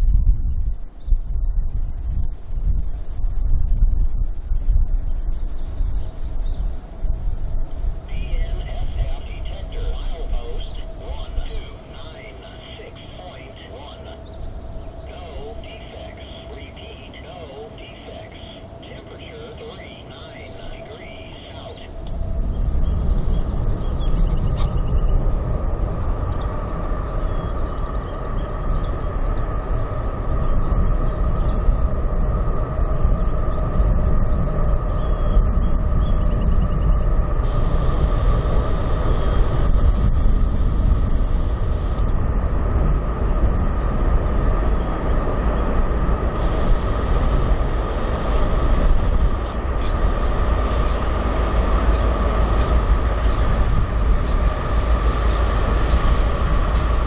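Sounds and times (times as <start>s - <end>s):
steel wheels rumbling on rail: 4.9s - 57.0s
steady tone: 6.6s - 38.8s, 39.5s - 57.0s.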